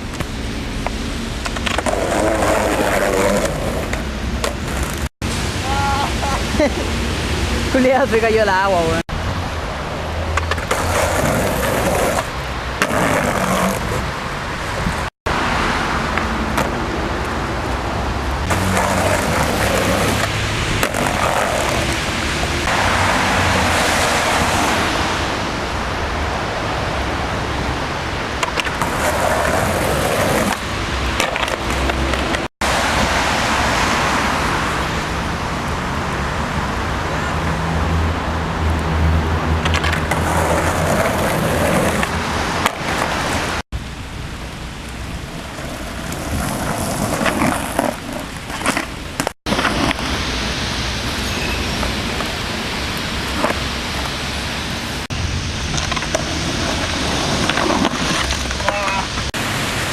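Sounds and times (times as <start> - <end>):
skateboard wheels rolling on wet pavement: 0.0 - 59.9.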